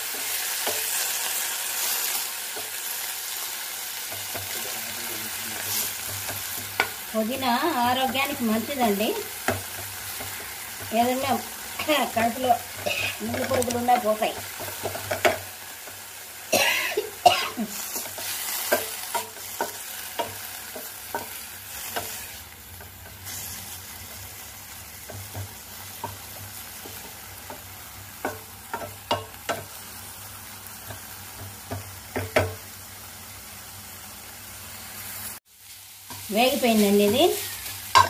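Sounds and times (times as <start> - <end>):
low sizzle: 0.0 - 38.0.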